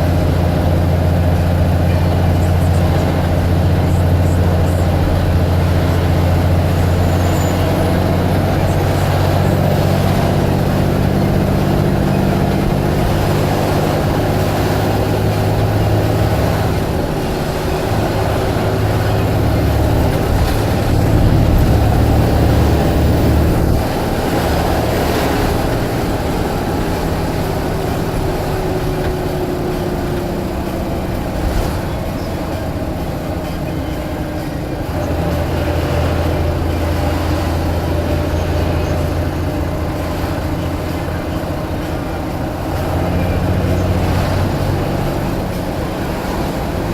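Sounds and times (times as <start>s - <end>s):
bus diesel engine droning: 0.0s - 46.9s.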